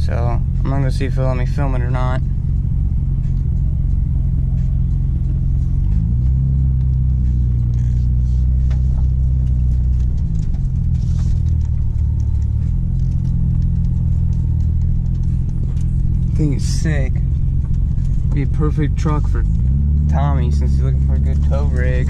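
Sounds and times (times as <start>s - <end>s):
car engine: 0.0s - 22.0s
road rumble: 0.0s - 22.0s.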